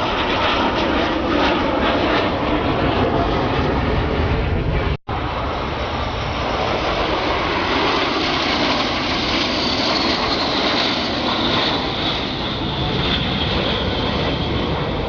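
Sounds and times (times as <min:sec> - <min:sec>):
jet aircraft roaring past: 0:00.0 - 0:15.0.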